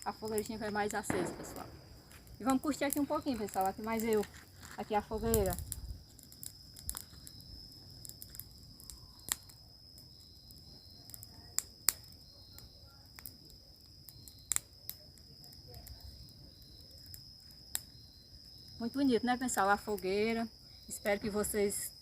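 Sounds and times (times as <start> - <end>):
bonfire crackling and popping: 0.0 - 22.0
crickets trilling: 0.0 - 22.0.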